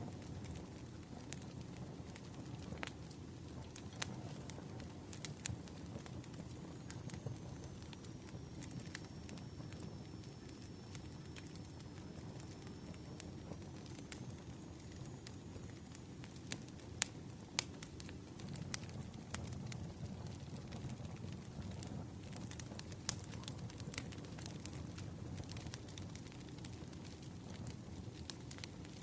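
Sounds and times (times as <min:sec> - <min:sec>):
firewood crackling and popping: 0:00.0 - 0:29.0
low rumble of fire: 0:00.0 - 0:29.0.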